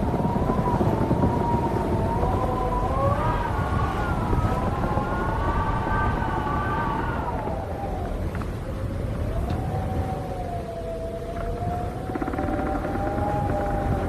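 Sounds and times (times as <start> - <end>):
low rushing noise: 0.0 - 14.0
wind howling with whistling tones: 0.0 - 14.0.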